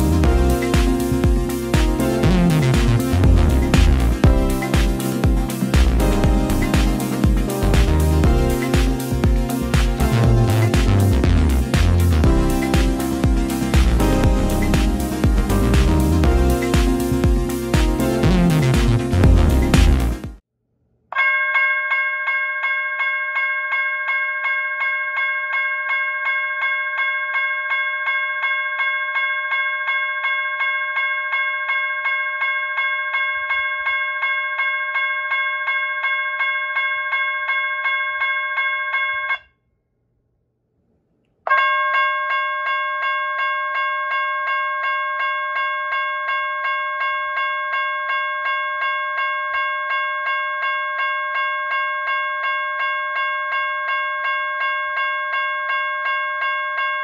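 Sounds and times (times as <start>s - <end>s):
railroad crossing bell ringing: 0.0s - 19.0s, 21.2s - 39.5s, 41.5s - 57.0s.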